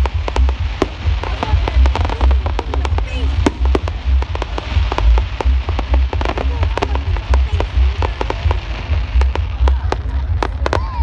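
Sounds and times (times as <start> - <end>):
fireworks cracking and popping: 0.0 - 11.0
pulsing low rumble: 0.0 - 11.0.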